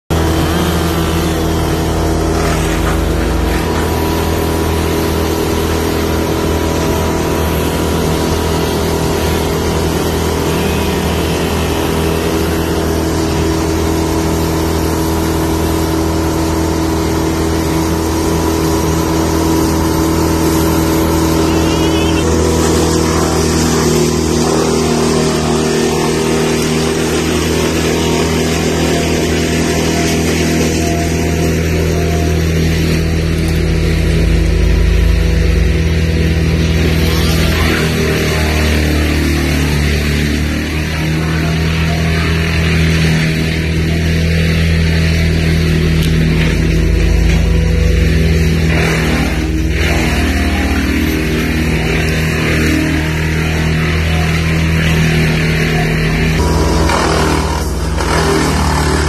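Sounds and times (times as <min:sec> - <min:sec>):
wood chipper engine drone: 0:00.1 - 0:59.0.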